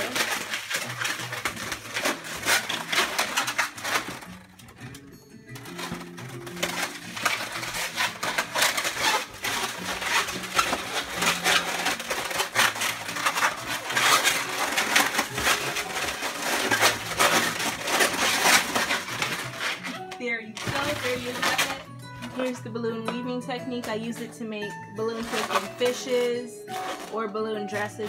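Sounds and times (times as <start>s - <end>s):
balloons squeaking and rubbing: 0.0s - 4.9s, 5.6s - 22.6s, 23.6s - 28.0s.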